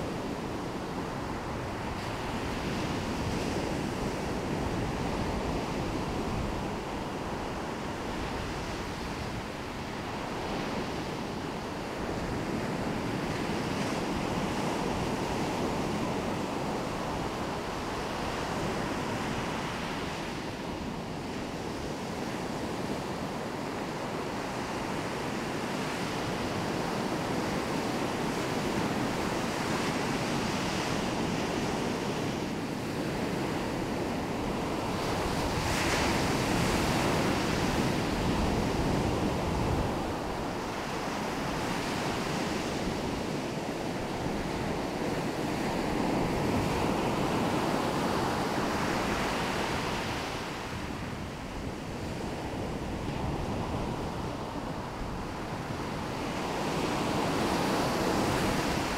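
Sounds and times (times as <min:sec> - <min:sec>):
waves breaking on beach: 0:00.0 - 0:58.9.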